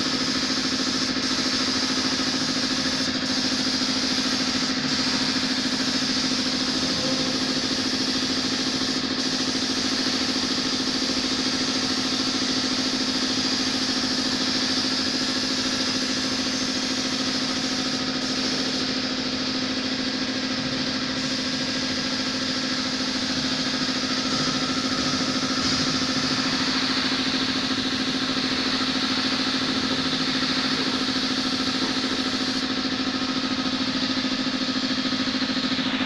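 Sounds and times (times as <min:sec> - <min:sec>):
large engine running steadily: 0:00.0 - 0:36.0.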